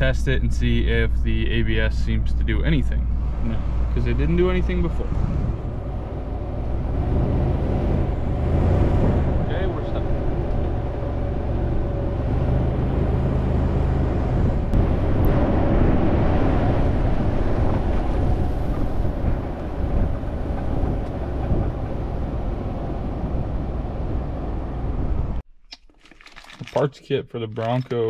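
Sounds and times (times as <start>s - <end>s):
car engine: 0.0s - 25.5s
road noise: 0.0s - 25.5s.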